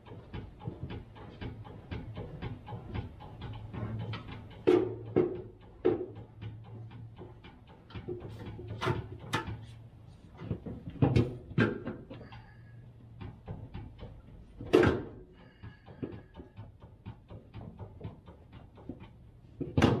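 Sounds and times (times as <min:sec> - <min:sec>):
clunks and knocks: 0:00.0 - 0:20.0.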